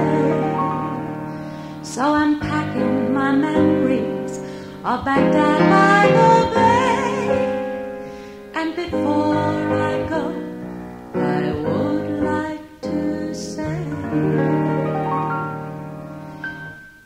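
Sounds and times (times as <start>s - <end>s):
woman singing: 0.0s - 15.0s
piano chords: 0.0s - 17.0s.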